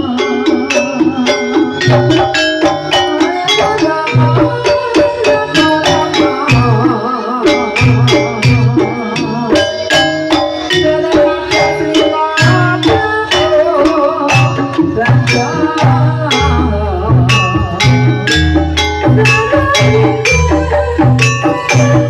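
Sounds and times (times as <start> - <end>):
hand drums: 0.0 - 22.0
struck pitched percussion: 0.0 - 22.0
wavering melody line: 0.0 - 22.0.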